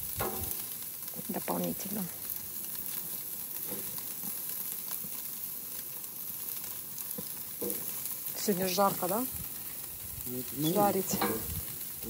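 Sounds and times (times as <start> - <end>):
vegetables sizzling on grill: 0.0 - 12.0.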